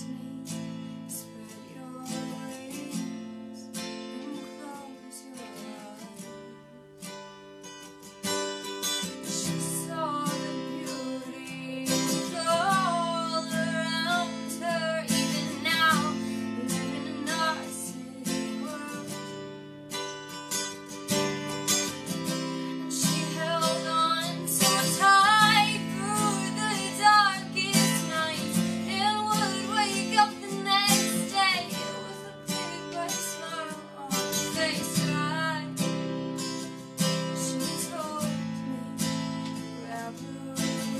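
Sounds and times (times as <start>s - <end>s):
woman singing: 0.0s - 7.4s, 8.9s - 40.9s
acoustic guitar strumming: 0.0s - 40.9s.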